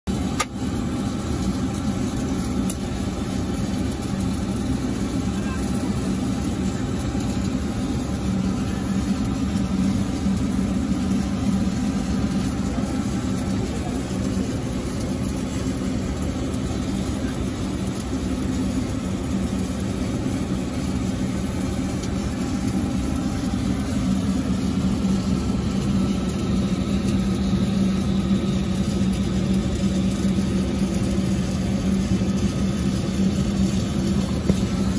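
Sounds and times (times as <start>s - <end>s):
mechanical drone: 0.1s - 34.9s.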